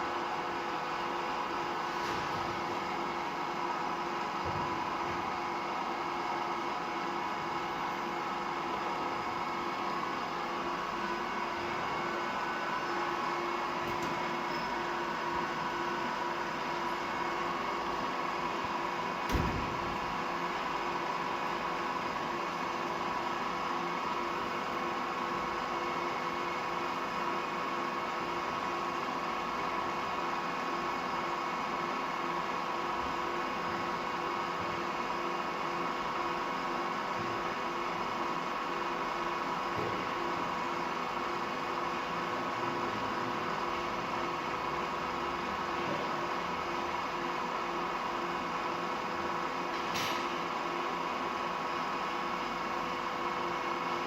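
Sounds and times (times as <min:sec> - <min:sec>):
drilling machine hum and gear whine: 0:00.0 - 0:54.0.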